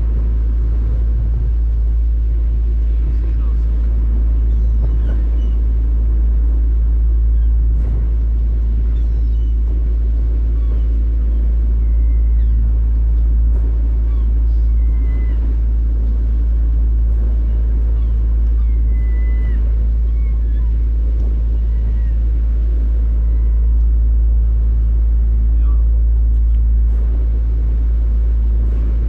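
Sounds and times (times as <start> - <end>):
boat engine rumbling: 0.0 - 29.0
gulls crying: 0.0 - 29.0.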